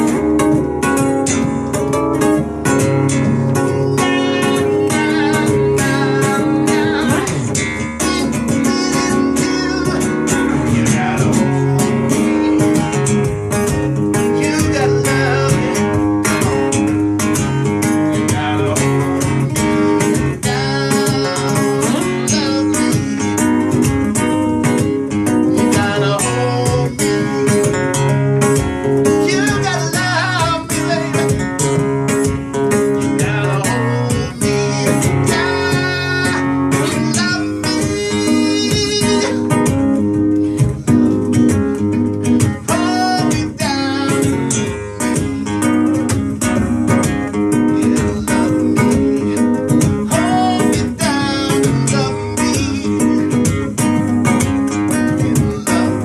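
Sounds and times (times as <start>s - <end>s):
acoustic guitar strummed hard: 0.0s - 56.0s
man singing: 3.2s - 41.4s, 42.4s - 45.7s, 46.8s - 56.0s.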